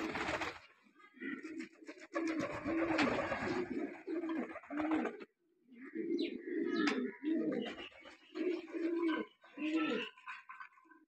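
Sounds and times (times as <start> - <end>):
pigeons cooing: 1.1 - 11.0.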